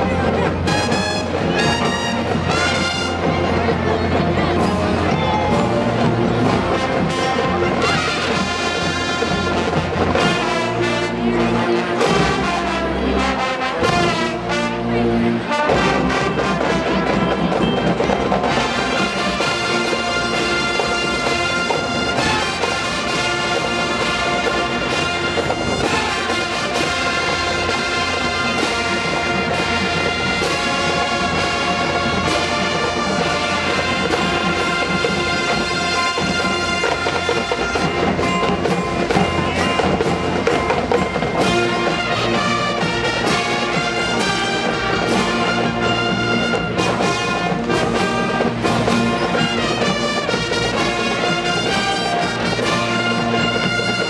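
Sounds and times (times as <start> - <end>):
brass section playing: 0.0 - 54.0
drumline percussion: 0.0 - 54.0.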